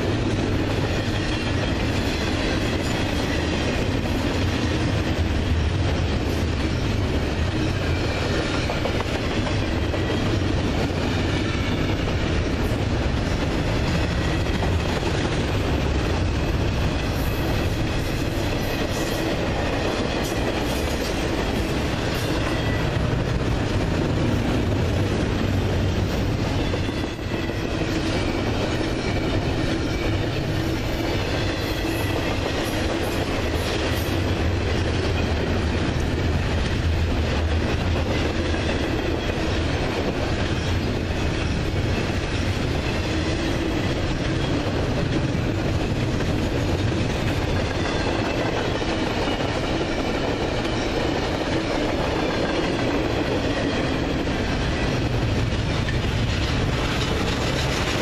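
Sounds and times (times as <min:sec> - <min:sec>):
freight cars rumbling on rail: 0:00.0 - 0:58.0.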